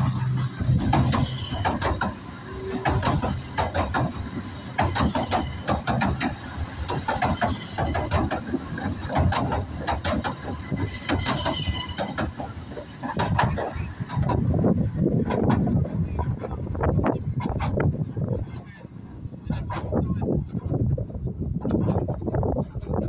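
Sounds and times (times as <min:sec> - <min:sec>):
train wheels clicking on rails: 0:00.0 - 0:23.0.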